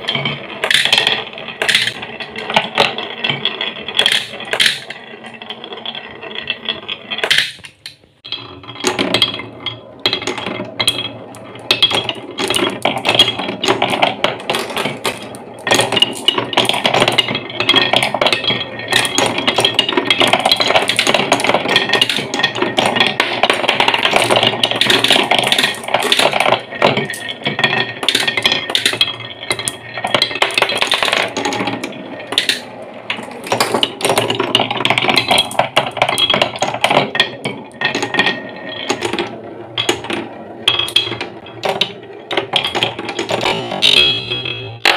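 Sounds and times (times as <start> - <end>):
marbles rolling on wooden run: 0.0 - 44.9.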